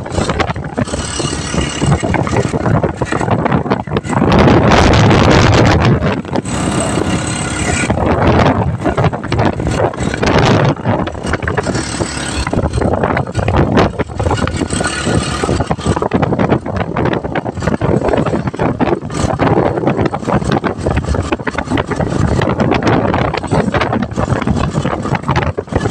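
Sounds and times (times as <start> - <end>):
motorcycle engine running: 0.0 - 25.9
road and wind noise: 0.0 - 25.9.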